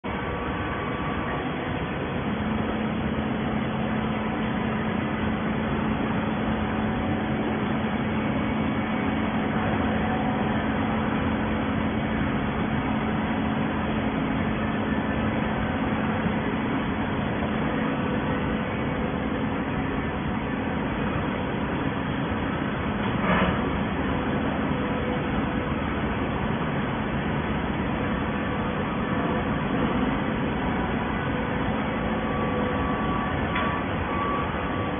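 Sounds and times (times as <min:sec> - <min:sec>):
steady hum: 0:00.0 - 0:34.9
baler machine running: 0:00.1 - 0:34.9.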